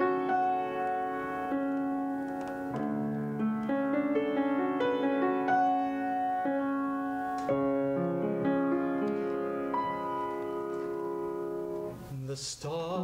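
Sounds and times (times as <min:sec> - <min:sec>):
solo piano playing broken chords: 0:00.0 - 0:12.1.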